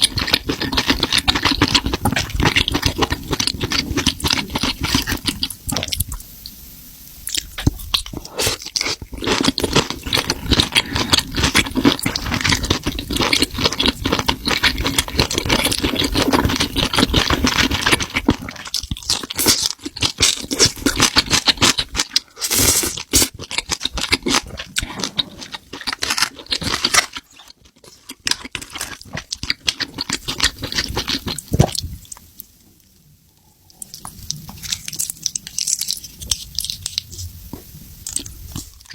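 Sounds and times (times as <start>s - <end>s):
chewing and crunching: 0.0s - 6.2s, 7.2s - 32.3s, 33.6s - 38.9s.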